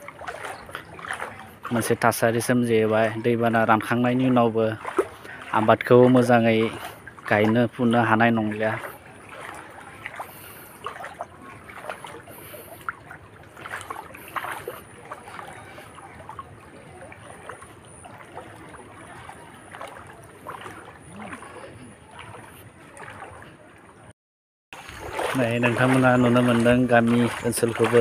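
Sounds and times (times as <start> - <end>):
people wading through water: 0.0 - 24.1, 24.8 - 28.0.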